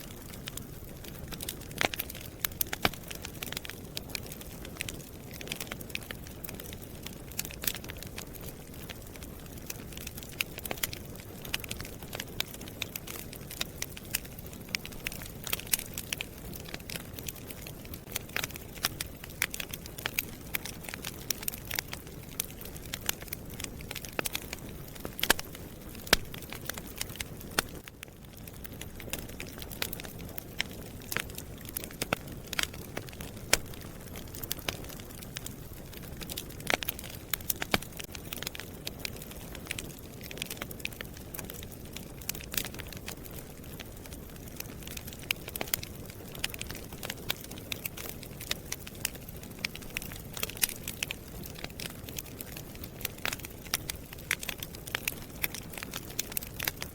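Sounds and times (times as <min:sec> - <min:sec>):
fire crackling and popping: 0:00.0 - 0:56.9.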